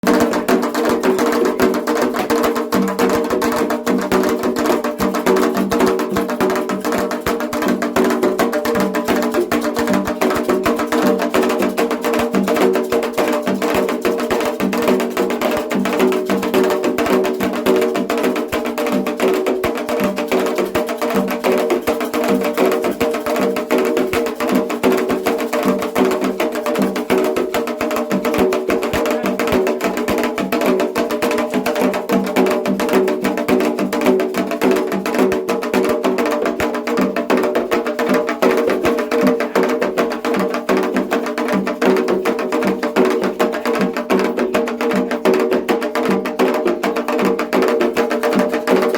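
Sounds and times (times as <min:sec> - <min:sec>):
hand drums beating: 0:00.0 - 0:48.9.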